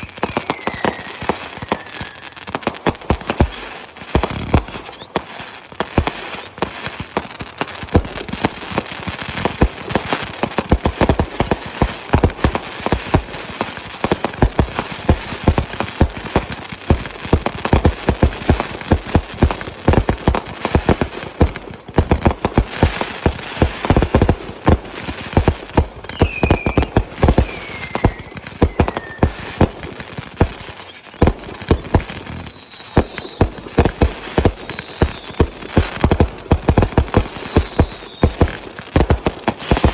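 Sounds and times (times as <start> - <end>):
falling firework whistles: 0.0 - 2.5, 3.3 - 5.4, 8.4 - 39.9
fireworks bangs and crackles: 0.0 - 39.9.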